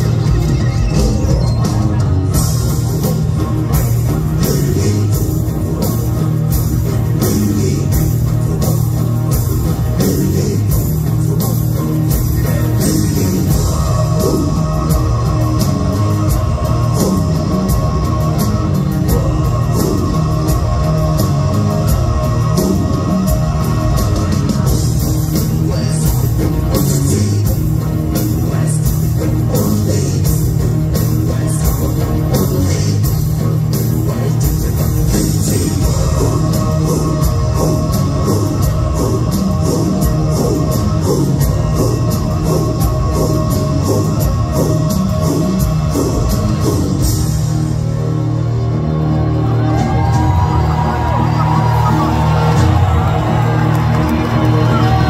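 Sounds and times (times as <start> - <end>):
person singing lead vocal: 0.0 - 47.9
drums: 0.0 - 55.0
guitars: 0.0 - 55.0.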